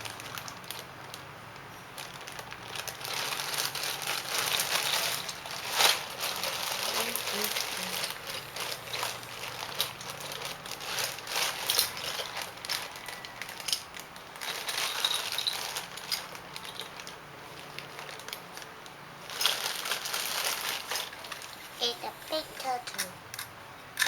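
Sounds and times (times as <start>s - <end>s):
plastic crinkling: 0.0s - 23.1s.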